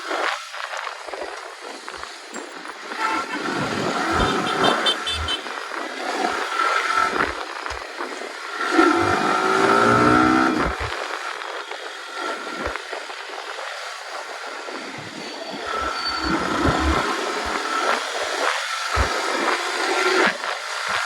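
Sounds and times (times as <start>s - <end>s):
thin steady whine: 0.0s - 20.3s
wind and road noise: 0.0s - 21.0s.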